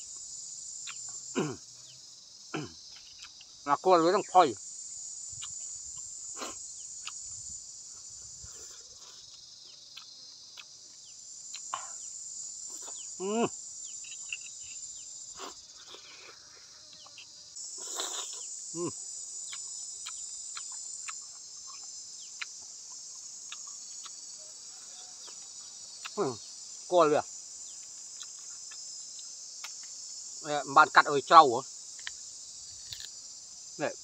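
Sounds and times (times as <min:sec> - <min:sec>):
crickets chirring: 0:00.0 - 0:34.0.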